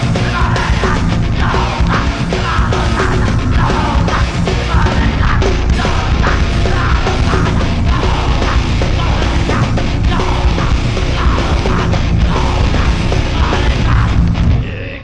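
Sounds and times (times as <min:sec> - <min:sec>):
heavy rock band playing live: 0:00.0 - 0:15.0.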